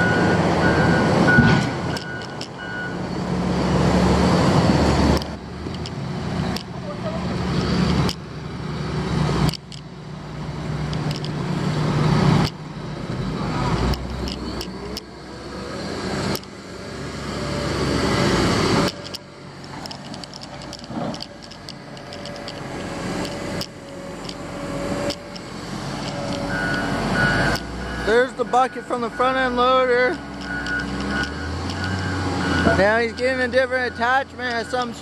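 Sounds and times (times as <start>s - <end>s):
heavy diesel engine working: 0.0s - 35.0s.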